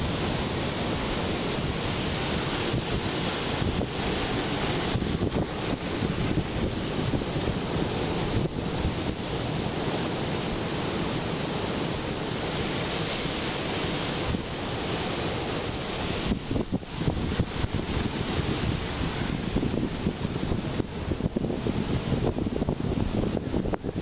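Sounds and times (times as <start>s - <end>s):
surf washing through rocks: 0.0s - 24.0s
wind buffeting microphone: 0.0s - 24.0s.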